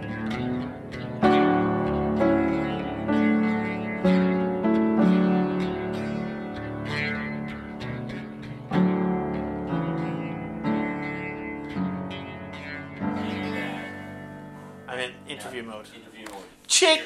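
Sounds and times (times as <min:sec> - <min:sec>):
acoustic guitar strumming chords: 0:00.0 - 0:16.3.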